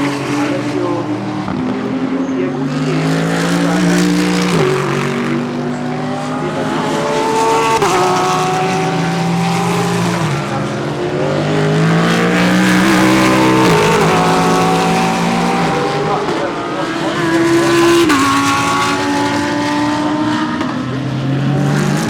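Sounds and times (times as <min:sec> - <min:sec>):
race cars accelerating: 0:00.0 - 0:22.0.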